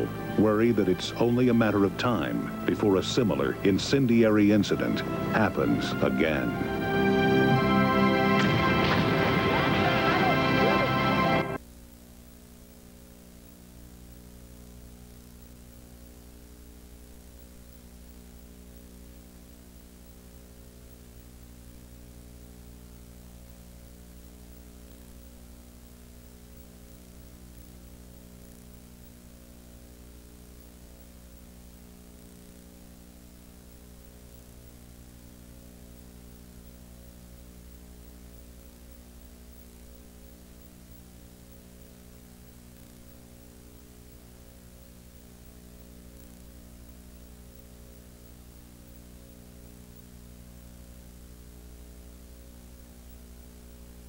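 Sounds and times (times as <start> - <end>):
electrical mains hum: 0.0 - 54.0
faint hiss: 0.0 - 54.0.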